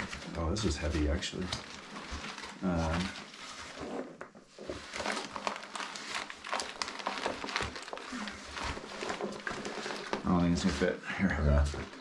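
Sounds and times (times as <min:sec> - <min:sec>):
plastic bladder crinkling: 0:00.0 - 0:12.0.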